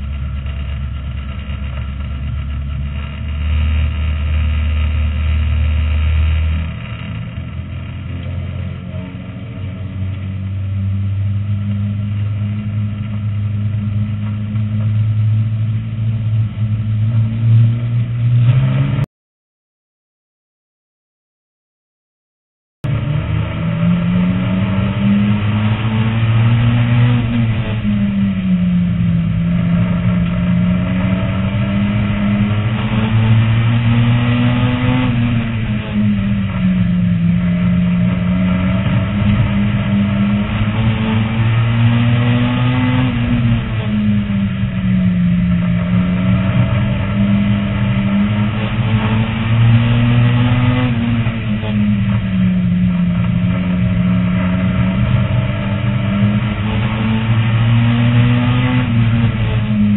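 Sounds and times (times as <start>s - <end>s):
race car engine: 0.0s - 19.1s, 22.8s - 59.9s.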